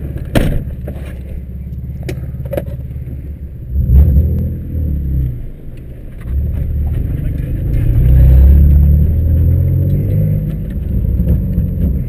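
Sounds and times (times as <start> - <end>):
car engine revving: 1.3 - 12.0.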